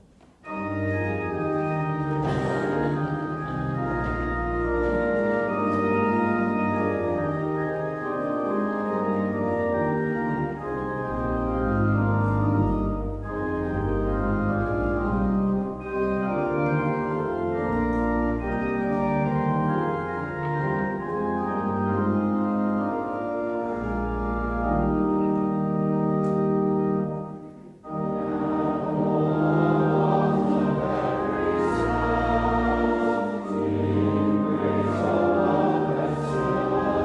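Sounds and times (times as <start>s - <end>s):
church organ chords: 0.0s - 37.0s.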